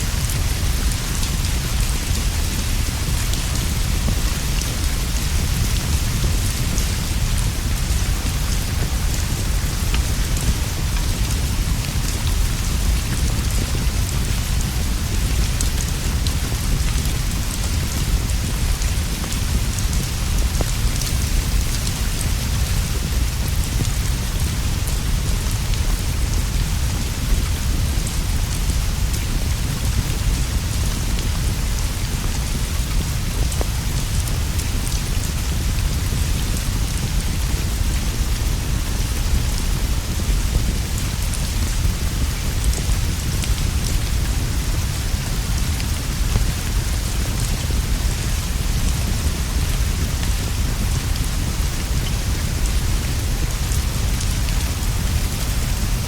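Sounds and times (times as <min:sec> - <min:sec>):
rain on leaves and a roof: 0:00.0 - 0:56.0.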